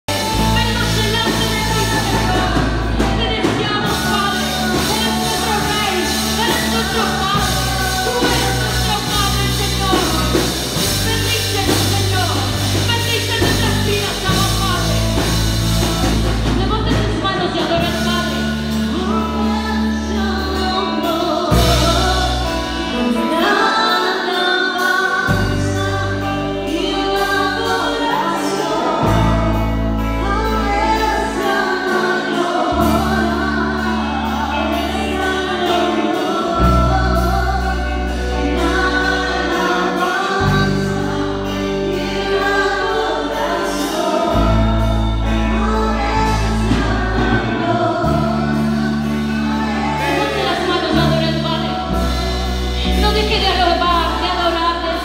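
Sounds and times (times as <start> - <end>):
congregation singing along: 0.0 - 55.0
electric bass and band: 0.0 - 55.0
woman singing into a microphone: 0.1 - 55.0.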